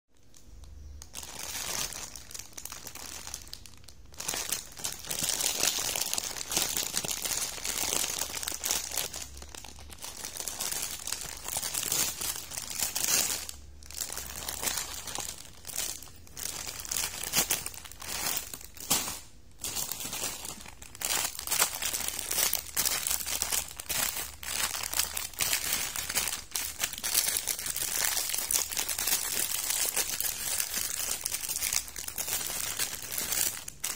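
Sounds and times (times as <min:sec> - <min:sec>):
plastic packaging crinkling: 0:00.2 - 0:33.9.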